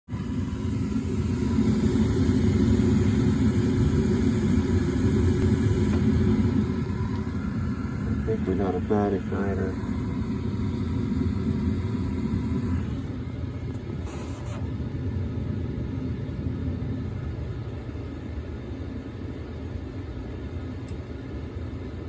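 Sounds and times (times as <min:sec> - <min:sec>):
gas furnace rumbling: 0:00.0 - 0:22.0.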